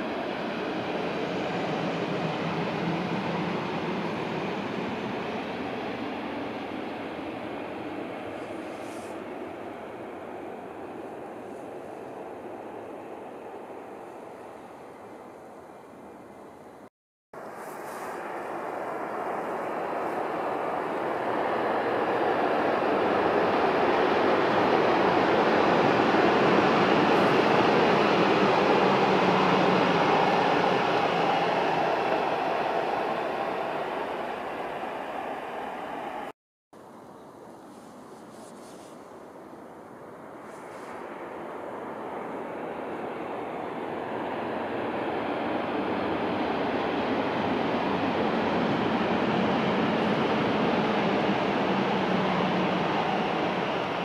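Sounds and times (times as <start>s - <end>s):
high-speed train rushing past: 0.0s - 37.0s, 37.7s - 54.0s.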